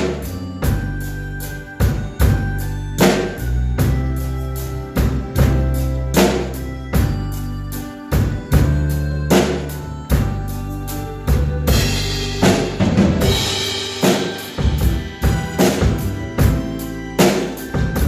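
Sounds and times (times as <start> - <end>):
drum kit beat: 0.0 - 18.0
recorded backing track music: 0.0 - 18.0.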